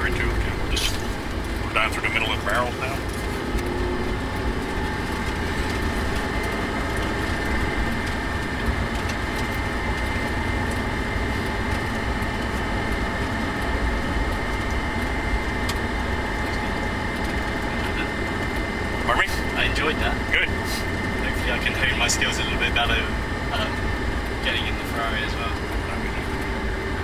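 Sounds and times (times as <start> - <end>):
car engine running at low speed: 0.0 - 27.0
road noise: 0.0 - 27.0.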